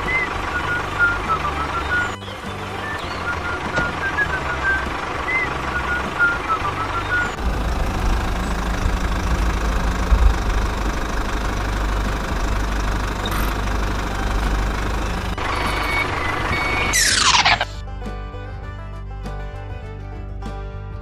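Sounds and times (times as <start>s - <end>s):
higher tones: 0.0s - 17.8s
mini tractor engine drone: 0.0s - 18.5s.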